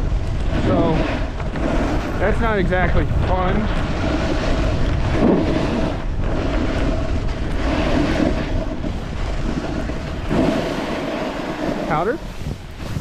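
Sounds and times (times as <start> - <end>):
wind buffeting microphone: 0.0 - 13.0
snowboard hissing over snow: 0.5 - 13.0.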